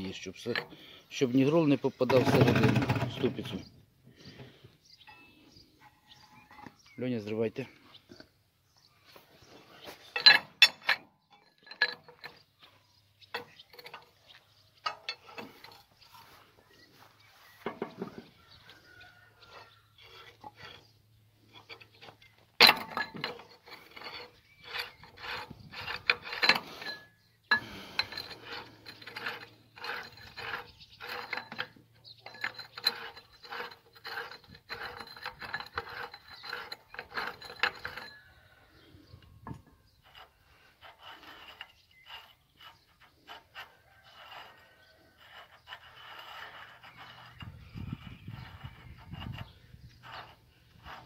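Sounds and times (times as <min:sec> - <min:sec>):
metal clicking and scraping: 0:00.0 - 0:03.7, 0:09.8 - 0:16.3, 0:17.6 - 0:51.0.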